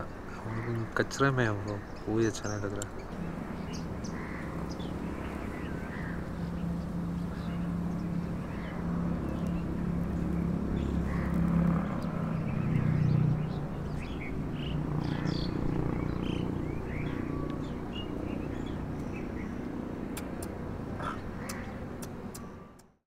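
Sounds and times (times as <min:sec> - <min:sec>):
bird chirps: 0:00.4 - 0:22.8
engine running: 0:02.7 - 0:23.0.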